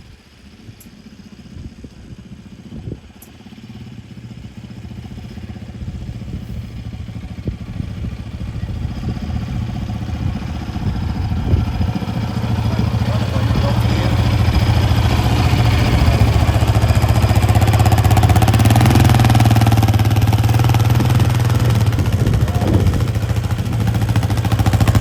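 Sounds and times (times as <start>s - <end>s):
quad bike engine running steadily: 0.0s - 25.0s.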